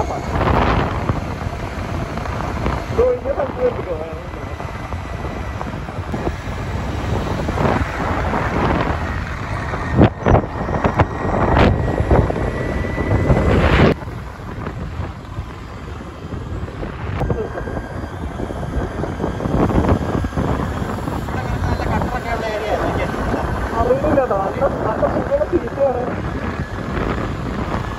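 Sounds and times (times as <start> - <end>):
road noise: 0.0 - 27.9
wind buffeting microphone: 0.0 - 27.9.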